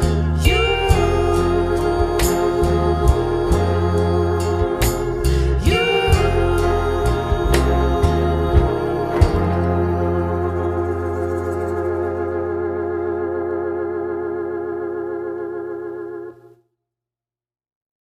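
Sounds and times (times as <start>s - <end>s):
deep bass note: 0.0s - 16.4s
wavering organ chord: 0.0s - 16.5s.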